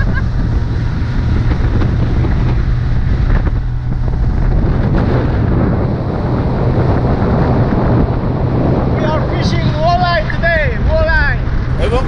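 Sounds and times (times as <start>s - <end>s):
outboard motor running: 0.0s - 12.0s
rushing water: 0.0s - 12.0s
wind noise on microphone: 0.0s - 12.0s.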